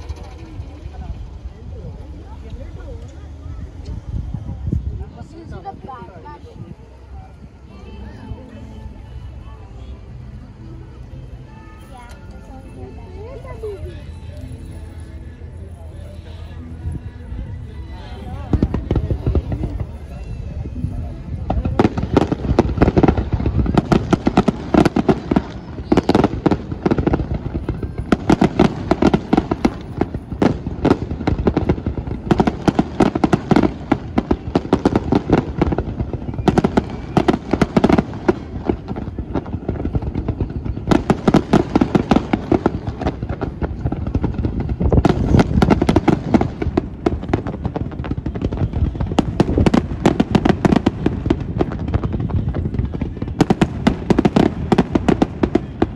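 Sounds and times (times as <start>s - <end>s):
fireworks booming and crackling: 0.0s - 8.5s, 15.6s - 55.9s.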